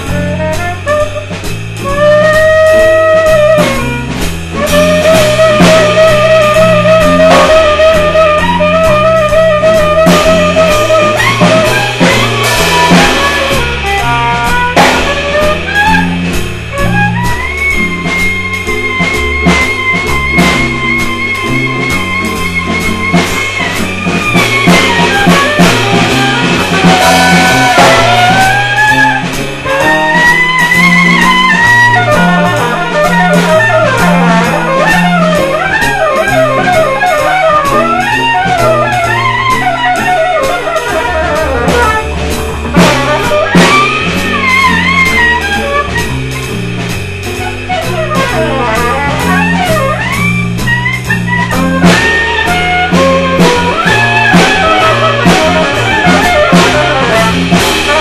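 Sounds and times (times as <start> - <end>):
drums and cymbals beat: 0.0 - 58.0
guitars: 0.0 - 58.0
horn playing melody: 0.0 - 58.0
repeating low bass line: 0.0 - 58.0.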